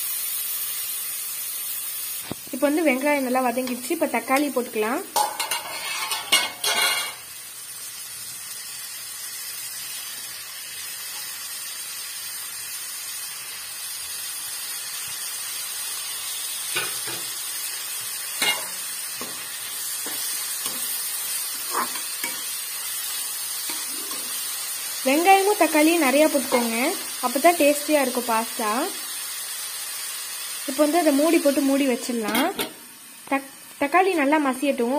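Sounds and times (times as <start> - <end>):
vegetables sizzling in oil: 0.0 - 34.9.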